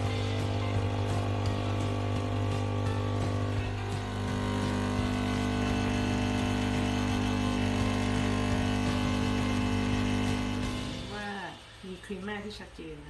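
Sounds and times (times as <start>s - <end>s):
espresso machine pump buzzing: 0.0s - 11.8s.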